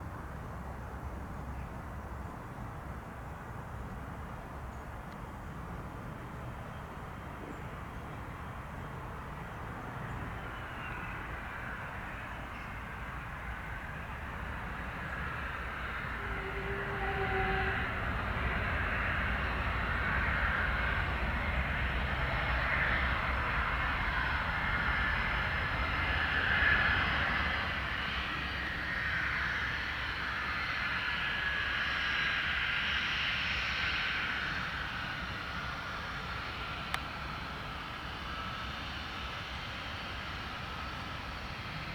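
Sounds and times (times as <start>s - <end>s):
jet engines rushing with whine: 1.9s - 41.9s.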